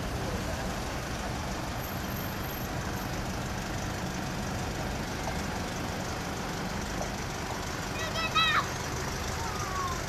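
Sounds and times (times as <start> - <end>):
road traffic with engine rumble: 0.0 - 10.0.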